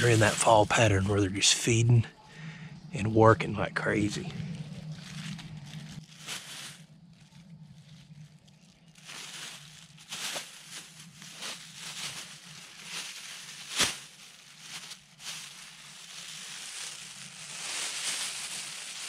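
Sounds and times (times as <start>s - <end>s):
plastic bag crinkling: 0.0s - 1.0s, 4.2s - 19.0s.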